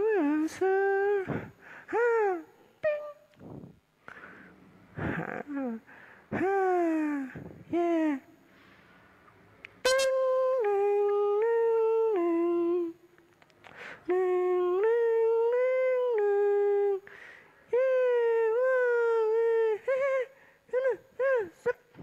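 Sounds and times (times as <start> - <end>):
person humming a slow tune: 0.0 - 3.8, 5.0 - 8.4, 9.8 - 13.1, 14.0 - 22.0.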